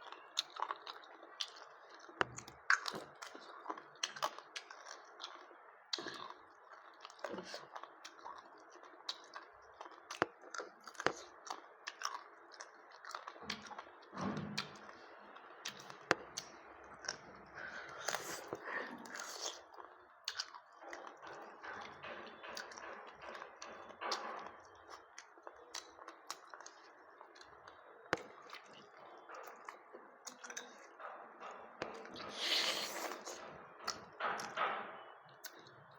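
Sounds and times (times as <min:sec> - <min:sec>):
person chewing food: 0:00.0 - 0:34.6.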